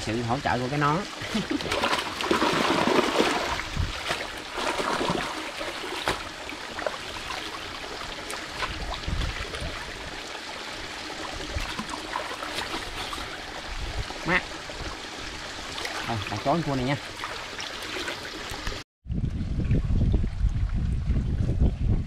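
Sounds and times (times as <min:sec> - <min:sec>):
shallow water trickling: 0:00.9 - 0:18.8.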